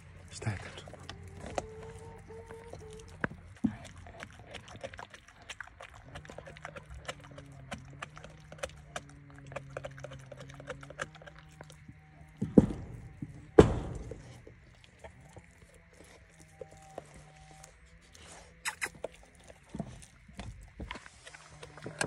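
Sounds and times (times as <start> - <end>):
dog gnawing bone: 0.0 - 22.0.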